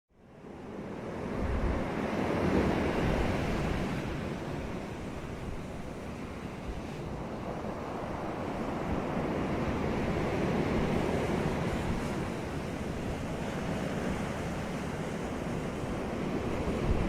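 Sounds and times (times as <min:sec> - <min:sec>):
waves breaking on a beach: 0:00.2 - 0:17.0.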